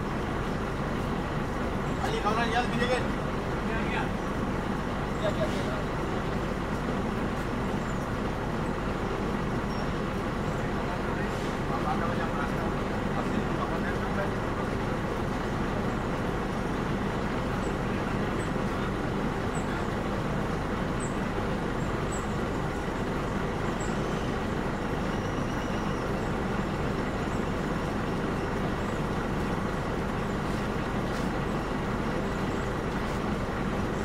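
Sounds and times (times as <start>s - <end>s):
heavy vehicle engine droning: 0.0s - 34.0s.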